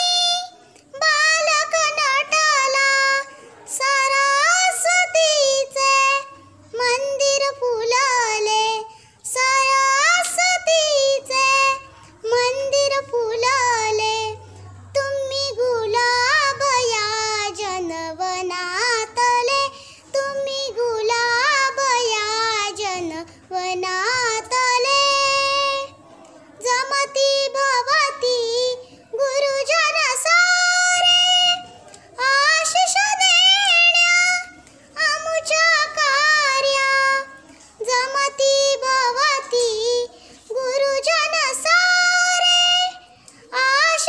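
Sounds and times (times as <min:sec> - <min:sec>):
child singing: 0:00.0 - 0:44.0.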